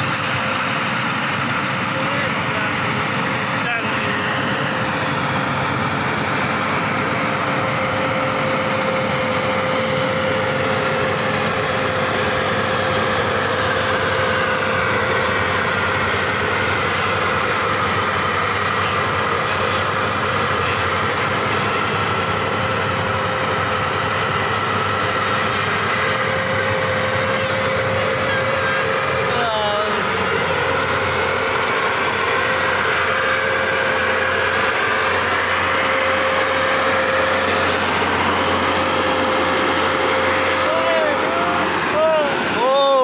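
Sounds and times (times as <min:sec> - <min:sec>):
combine harvester running: 0:00.0 - 0:43.0.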